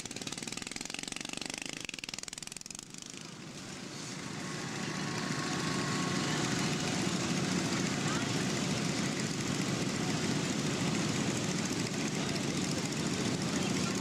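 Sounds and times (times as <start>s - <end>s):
riding lawn mower engine: 0.0s - 14.0s.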